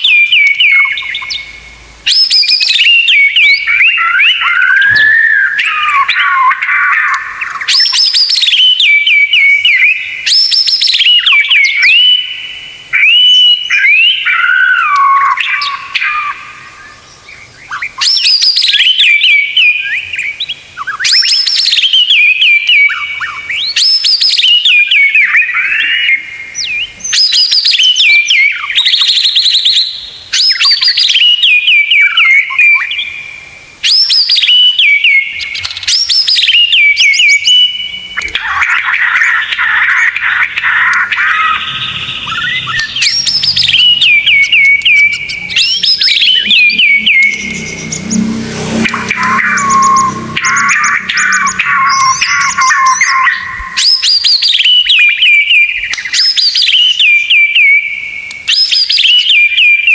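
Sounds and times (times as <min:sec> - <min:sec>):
bird singing whistled phrases: 0:00.0 - 0:59.9.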